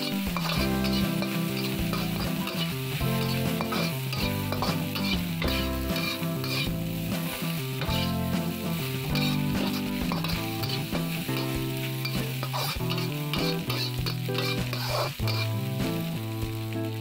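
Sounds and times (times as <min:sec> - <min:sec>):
metal spatula scraping wok: 0:00.0 - 0:16.0
background music: 0:00.0 - 0:17.0
rice sizzling in wok: 0:00.0 - 0:17.0.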